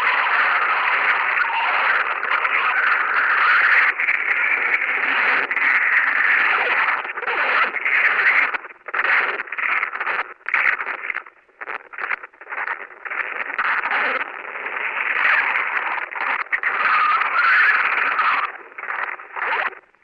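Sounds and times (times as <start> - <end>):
loud distorted static noise: 0.0 - 20.0.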